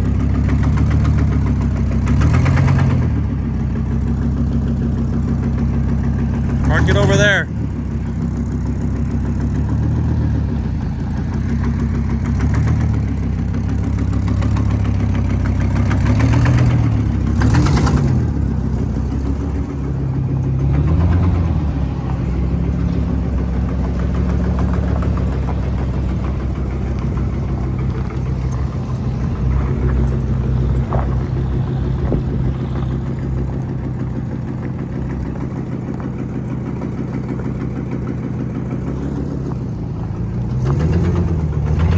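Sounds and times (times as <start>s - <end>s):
truck engine revving and idling: 0.0s - 41.9s.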